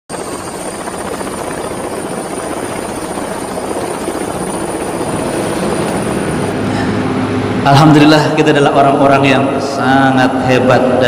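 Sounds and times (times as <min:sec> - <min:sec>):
helicopter rotor and engine: 0:00.1 - 0:11.0
high whine: 0:00.1 - 0:11.0.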